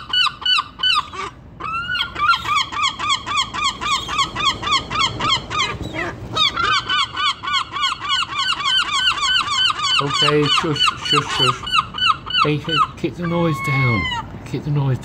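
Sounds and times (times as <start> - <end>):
gulls yelping calls: 0.0 - 15.0.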